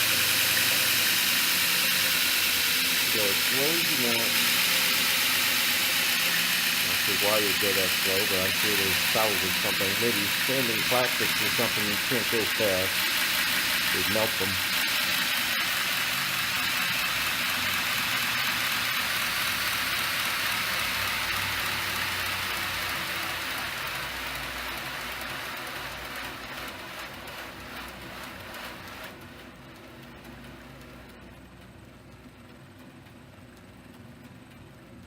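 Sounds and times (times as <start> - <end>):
grinder belt hissing: 0.0 - 29.2
faint motor hum: 0.0 - 35.0.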